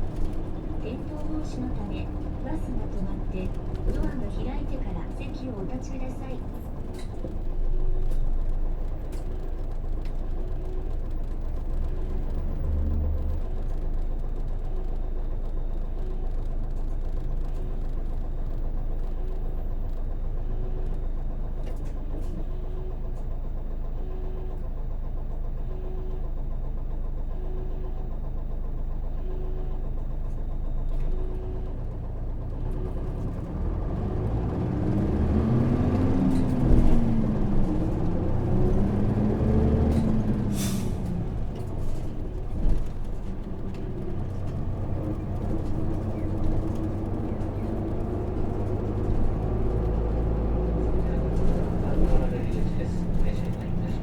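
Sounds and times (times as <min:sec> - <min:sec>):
road noise: 0:00.0 - 0:20.6, 0:30.9 - 0:54.0
bus diesel engine: 0:00.0 - 0:54.0.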